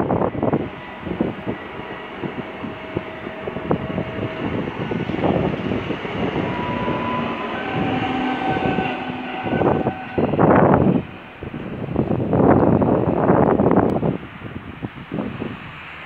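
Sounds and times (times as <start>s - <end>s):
faint whining tones: 0.0s - 12.9s
train wheels rumbling on rail: 0.0s - 16.0s.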